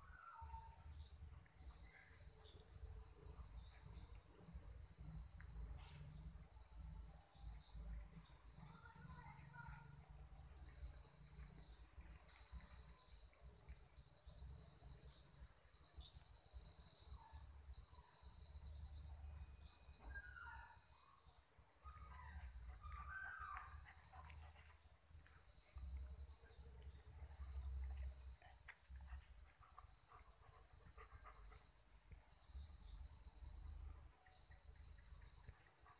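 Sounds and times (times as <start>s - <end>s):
crickets chirping: 0.0s - 35.9s.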